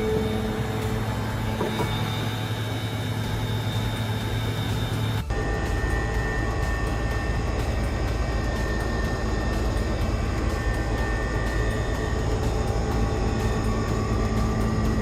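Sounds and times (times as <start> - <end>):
woodworking power tool running: 0.0 - 15.0.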